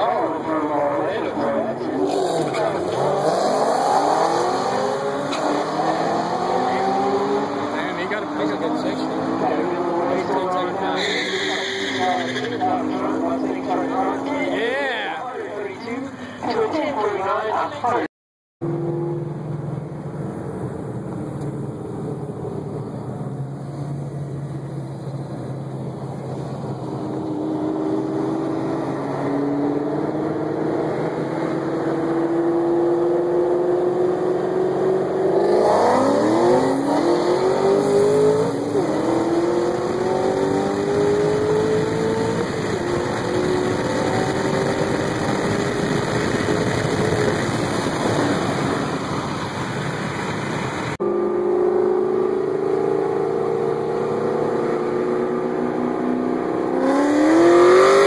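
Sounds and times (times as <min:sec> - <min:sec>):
car engine accelerating: 0:00.0 - 0:15.8, 0:18.6 - 0:58.0.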